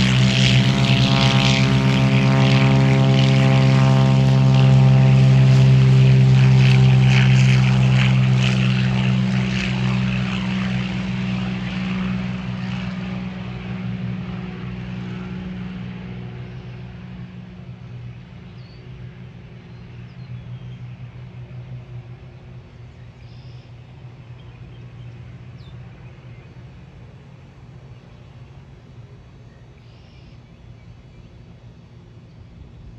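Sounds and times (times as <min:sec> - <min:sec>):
propeller plane engine drone: 0:00.0 - 0:32.9.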